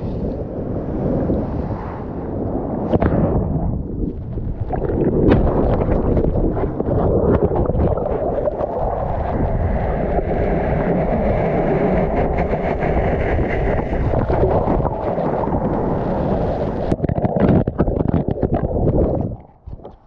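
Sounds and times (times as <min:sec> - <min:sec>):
muffled turbulent water rushing: 0:00.0 - 0:20.0.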